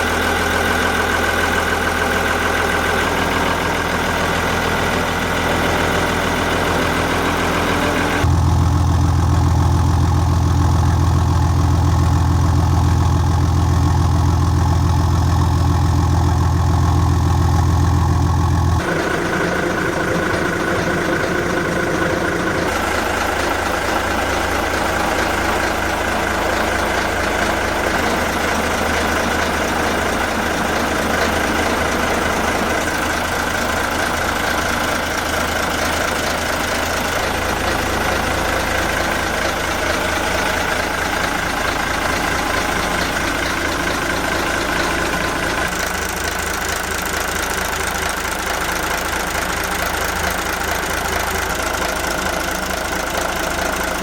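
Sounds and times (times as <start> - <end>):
marine diesel engine running: 0.0 - 54.0.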